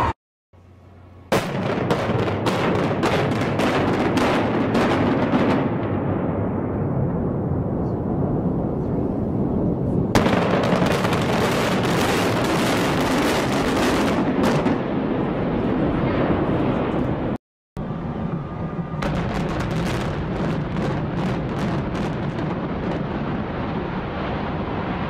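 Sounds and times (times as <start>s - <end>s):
building collapse rumble: 1.3s - 25.0s.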